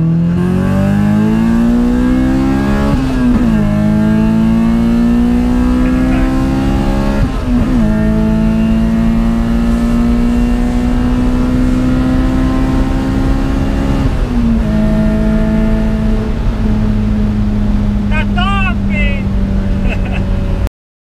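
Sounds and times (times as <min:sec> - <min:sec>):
car engine revving high: 0:00.0 - 0:20.7.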